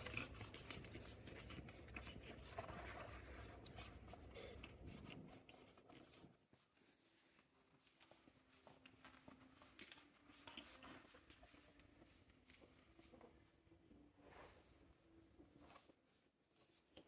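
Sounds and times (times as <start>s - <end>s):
puppy paws scratching on mat: 0.0s - 17.0s.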